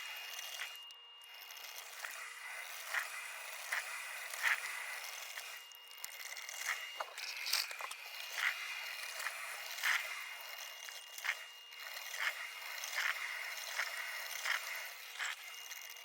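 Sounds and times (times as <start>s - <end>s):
coffee maker hissing and sputtering: 0.0s - 16.0s.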